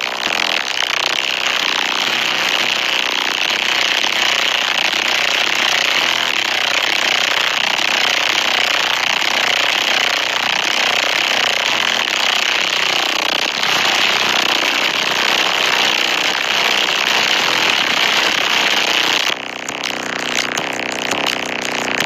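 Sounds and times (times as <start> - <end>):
loud car stereo bass: 0.0 - 22.0.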